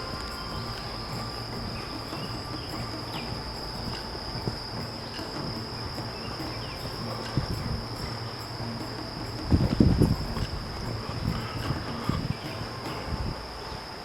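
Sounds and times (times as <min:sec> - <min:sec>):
insects droning: 0:00.0 - 0:14.0
low background rumble: 0:00.0 - 0:14.0.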